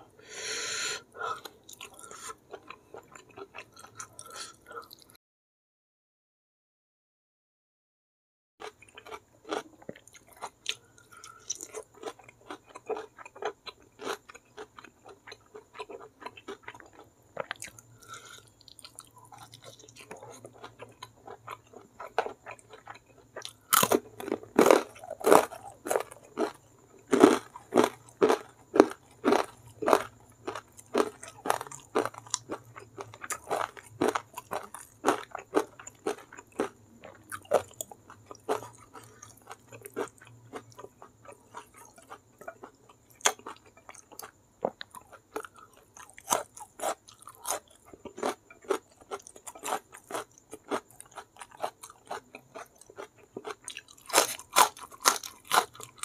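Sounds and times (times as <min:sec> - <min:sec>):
person chewing and crunching food: 0:00.0 - 0:05.2, 0:08.6 - 0:56.0.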